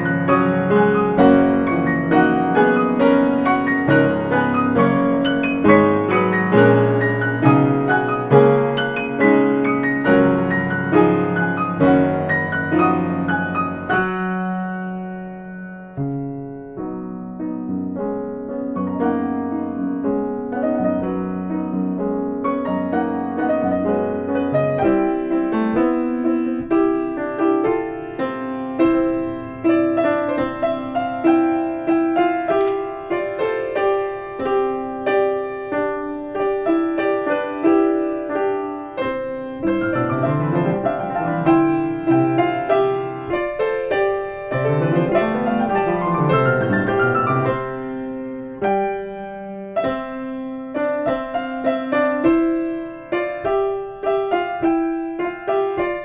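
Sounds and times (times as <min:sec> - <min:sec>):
piano playing: 0:00.0 - 0:56.0.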